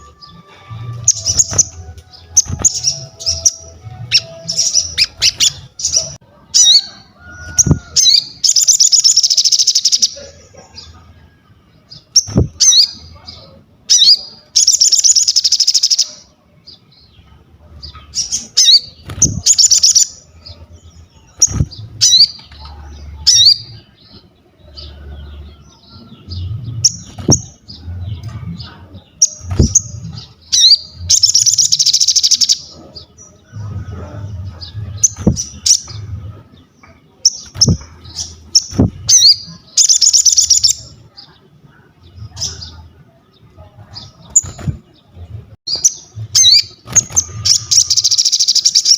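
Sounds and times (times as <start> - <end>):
songbird chattering song: 0.0 - 48.9.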